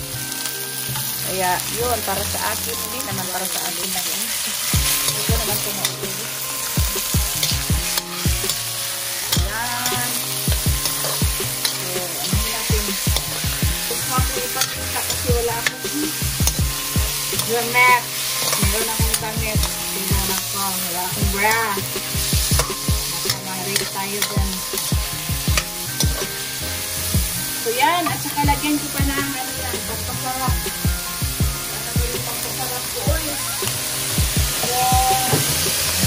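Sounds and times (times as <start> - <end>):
chicken sizzling in oil: 0.0 - 36.0
metal spatula scraping wok: 0.0 - 36.0.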